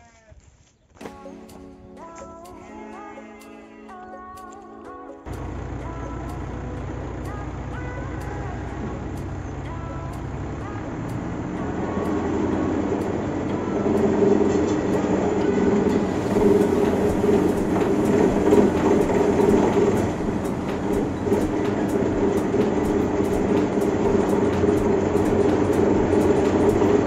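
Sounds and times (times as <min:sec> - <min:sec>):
light ticking: 0:04.3 - 0:27.0
tractor engine driving a mill: 0:05.3 - 0:27.0.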